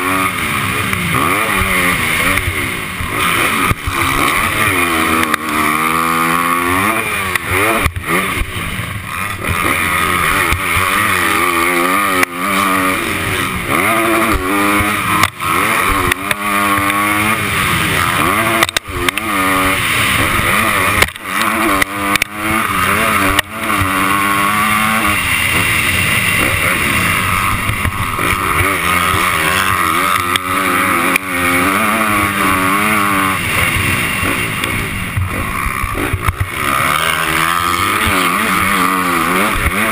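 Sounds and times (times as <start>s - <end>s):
constant rushing noise: 0.0s - 39.9s
motocross bike engine revving: 0.0s - 39.9s.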